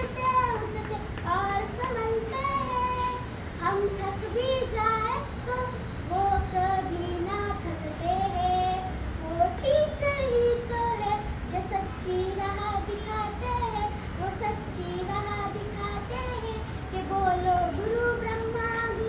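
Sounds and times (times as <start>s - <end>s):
girl singing unaccompanied: 0.0s - 19.0s.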